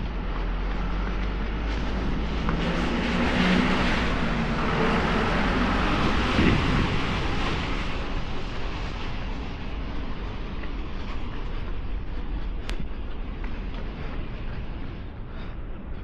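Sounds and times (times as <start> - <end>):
vehicle engines passing: 0.0 - 15.2.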